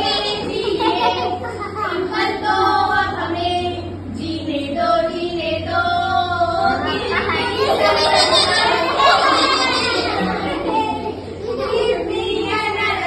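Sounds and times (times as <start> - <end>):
children singing: 0.0 - 3.8, 5.7 - 13.0.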